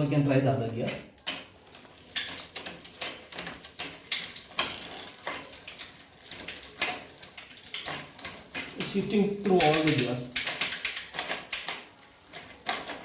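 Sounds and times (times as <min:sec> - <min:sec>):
bike chain clattering across cogs: 0:01.1 - 0:13.0.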